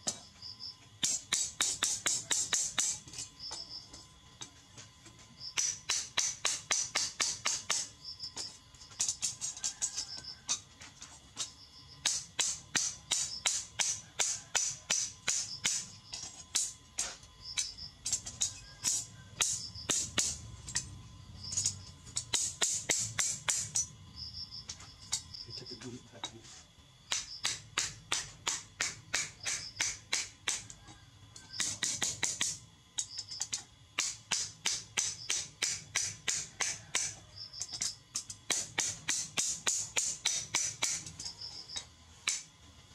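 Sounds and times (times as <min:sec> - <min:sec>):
hammer striking chisel on metal: 0:01.0 - 0:04.6, 0:05.5 - 0:10.6, 0:11.4 - 0:23.9, 0:27.1 - 0:30.8, 0:31.4 - 0:42.5.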